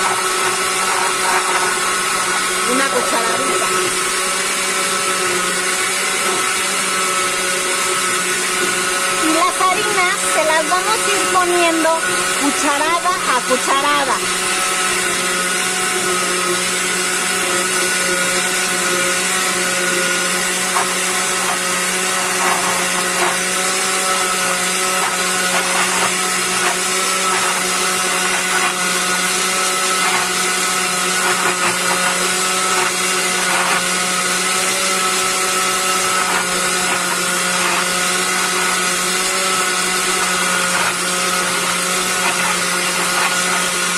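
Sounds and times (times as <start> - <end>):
blender motor running: 0.0 - 43.9.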